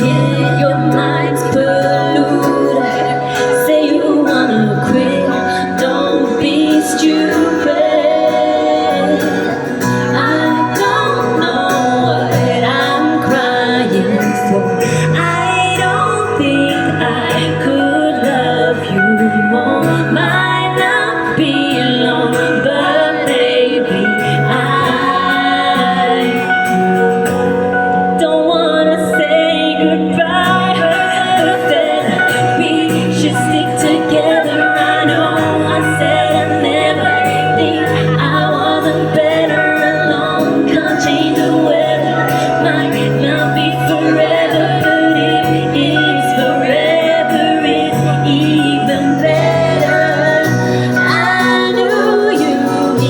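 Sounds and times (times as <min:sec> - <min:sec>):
woman singing pop song: 0:00.0 - 0:53.0.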